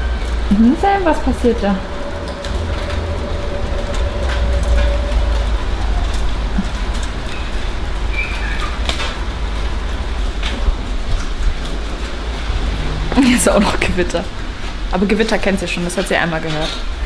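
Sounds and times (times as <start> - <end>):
deep continuous rumble: 0.0 - 17.0.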